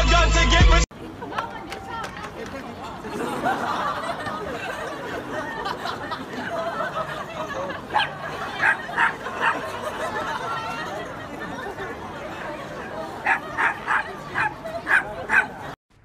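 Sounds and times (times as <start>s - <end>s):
crowd chattering and laughing: 0.1s - 15.8s.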